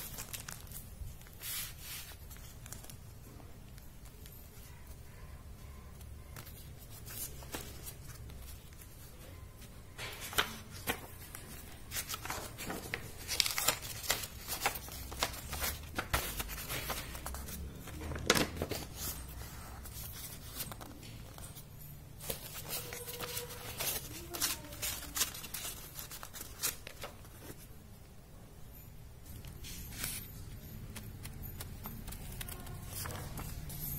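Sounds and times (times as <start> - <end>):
paper and cardboard rustling: 0.0 - 5.2, 6.2 - 27.8, 29.3 - 33.9.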